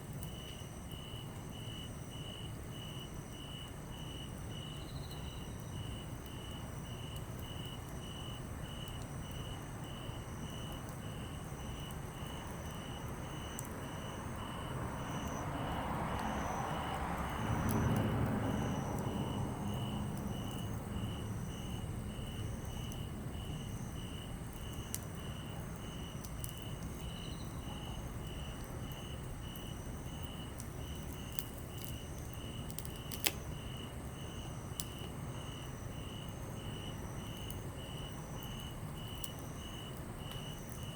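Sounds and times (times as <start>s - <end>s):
crickets chirping: 0.0s - 40.9s
campfire crackling and popping: 5.1s - 40.9s.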